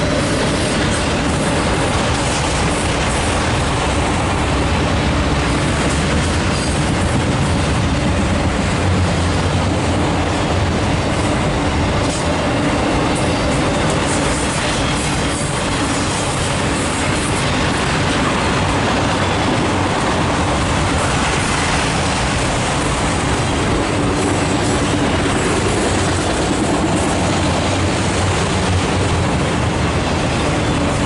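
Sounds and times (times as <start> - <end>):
steel wheels running on rail: 0.0 - 31.0.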